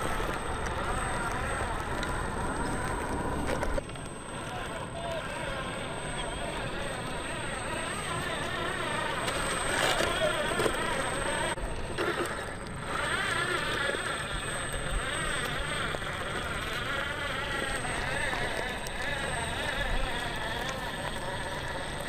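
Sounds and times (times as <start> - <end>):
toy truck electric motor whining: 0.0 - 22.0.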